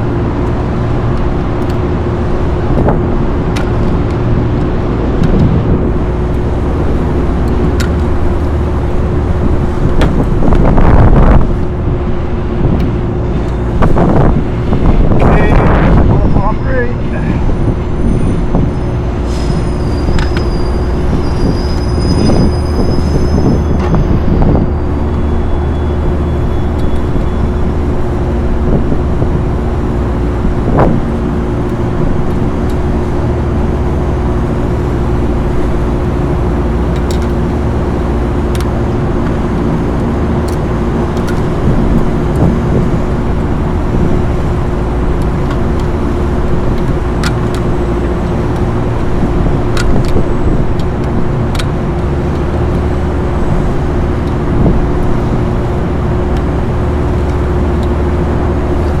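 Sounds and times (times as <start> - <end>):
mechanical drone humming: 0.0 - 59.0.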